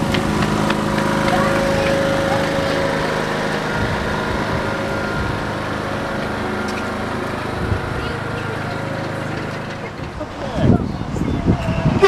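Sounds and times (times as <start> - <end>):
diesel train engine humming: 0.0 - 12.0.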